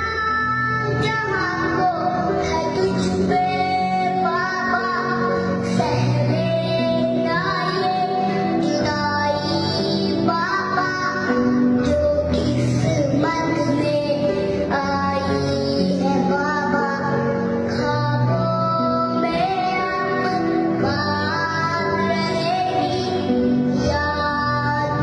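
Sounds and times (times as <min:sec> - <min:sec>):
boy singing into microphone: 0:00.0 - 0:25.0
musical accompaniment: 0:00.0 - 0:25.0.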